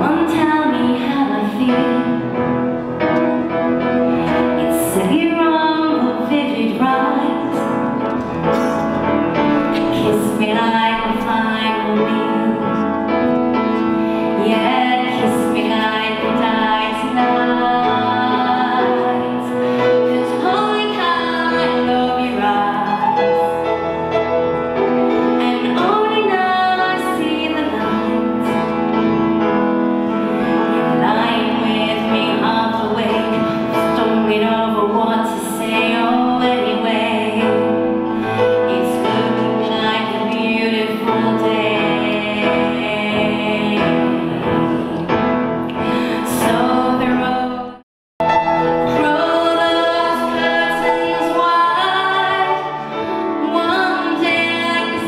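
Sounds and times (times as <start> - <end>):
woman singing a ballad: 0.0 - 2.4, 4.4 - 8.0, 9.7 - 13.3, 14.1 - 23.7, 25.2 - 28.7, 30.4 - 47.8, 48.8 - 55.0
grand piano: 0.0 - 55.0.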